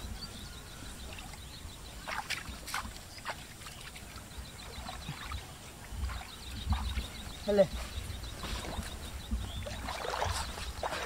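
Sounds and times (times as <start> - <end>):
water splashing and sloshing: 1.1 - 11.0.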